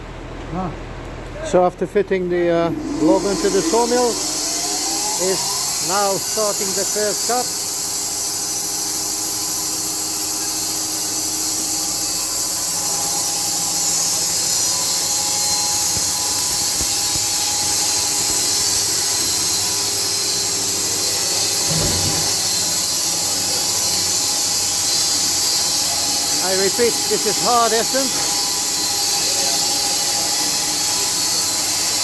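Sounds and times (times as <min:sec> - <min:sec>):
low machinery hum: 0:00.0 - 0:31.9
band saw blade hissing through wood: 0:02.8 - 0:32.0.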